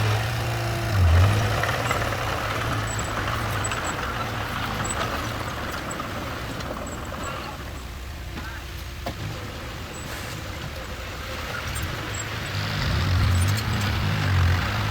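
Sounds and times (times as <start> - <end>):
heavy machinery engine humming: 0.0 - 14.9.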